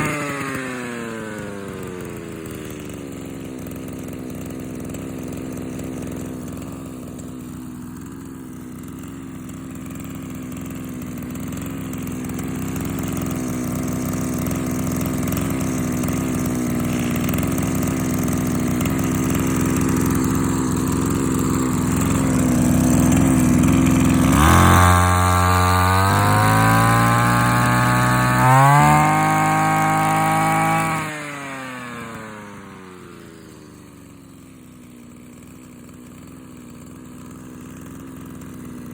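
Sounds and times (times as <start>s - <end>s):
brush cutter engine idling and revving: 0.0s - 38.9s.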